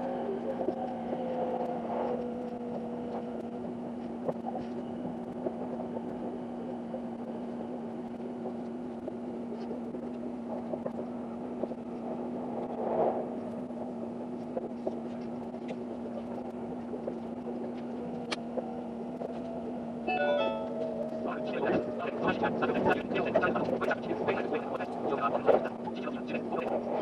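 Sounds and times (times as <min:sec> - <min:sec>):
train interior hum: 0:00.0 - 0:27.0.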